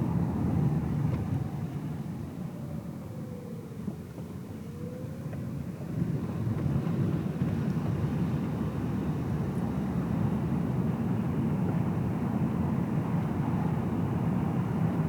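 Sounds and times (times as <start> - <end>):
road and engine noise in car: 0.0 - 15.0.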